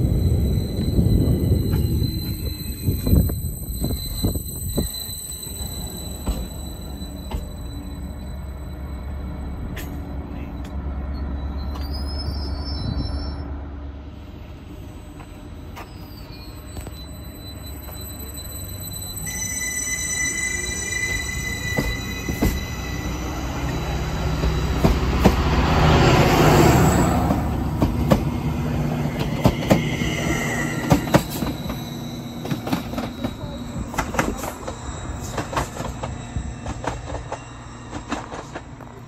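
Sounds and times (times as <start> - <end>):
train engine rumble: 0.0 - 39.0.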